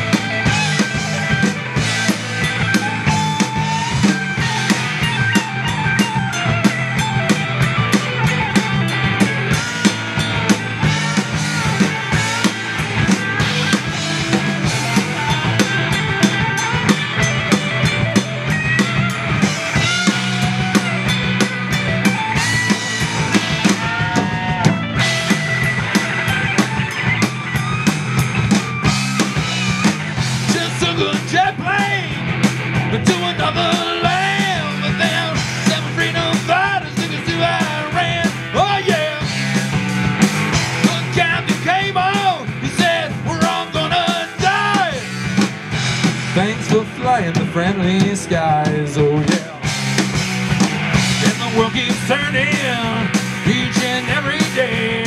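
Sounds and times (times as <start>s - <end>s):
lead guitar bending notes: 0.0s - 47.2s
bass guitar: 0.0s - 55.0s
drum kit: 0.0s - 55.0s
electric guitars: 0.0s - 55.0s.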